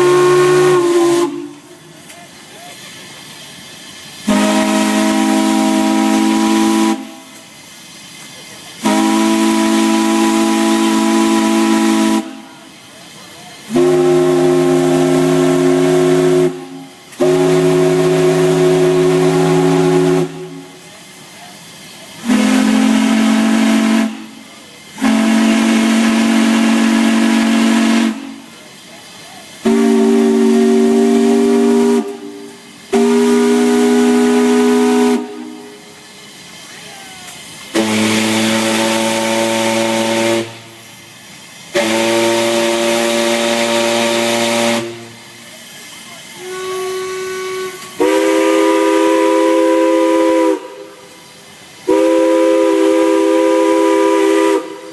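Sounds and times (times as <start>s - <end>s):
hiss: 0.0s - 54.9s.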